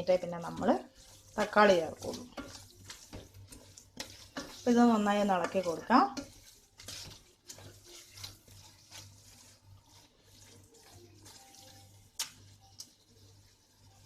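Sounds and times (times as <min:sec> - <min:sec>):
spice paste frying in a pan: 0:00.0 - 0:14.0
spoon stirring and scraping pan: 0:00.0 - 0:14.0.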